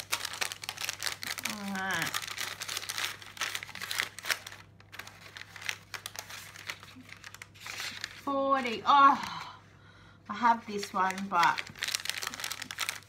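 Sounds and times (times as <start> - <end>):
plastic wrapper crinkling: 0.0 - 9.4, 10.6 - 13.0.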